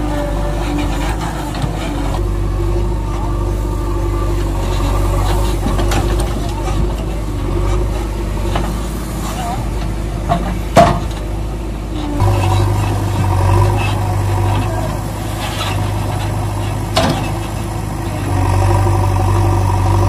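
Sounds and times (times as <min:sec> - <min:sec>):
engine-like running hum: 0:00.0 - 0:20.0.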